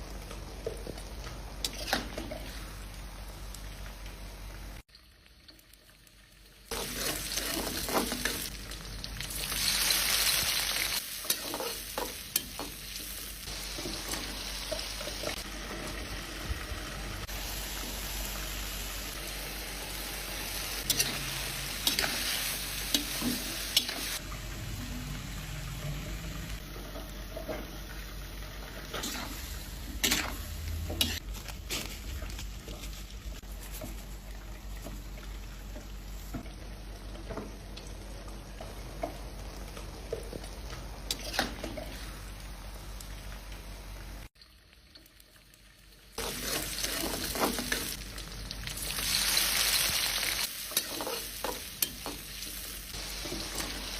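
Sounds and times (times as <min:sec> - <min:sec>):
food sizzling in a pan: 0:00.0 - 0:34.2, 0:35.0 - 0:53.9.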